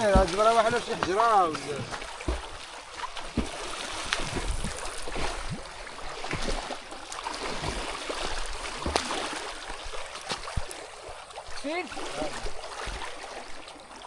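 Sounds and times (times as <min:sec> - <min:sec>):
flowing river water: 0:00.0 - 0:14.0
water splashing and sloshing: 0:00.0 - 0:14.0.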